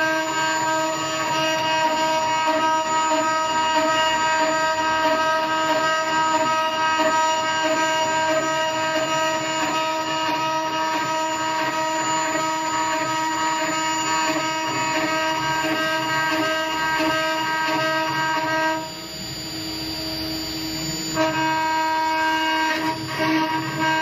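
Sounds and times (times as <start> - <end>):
cutter cutting metal: 0.0 - 24.0
router spindle whine: 0.0 - 24.0.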